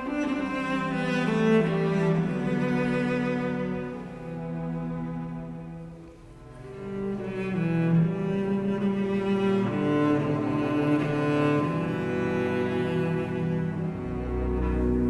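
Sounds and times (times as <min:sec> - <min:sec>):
slow bowed cello-like string notes: 0:00.0 - 0:15.0.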